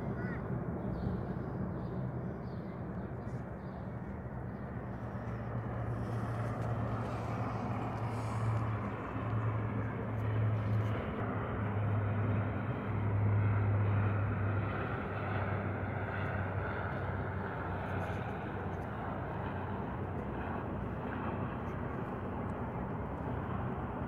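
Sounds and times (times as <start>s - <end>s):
propeller plane drone: 0.0s - 24.0s.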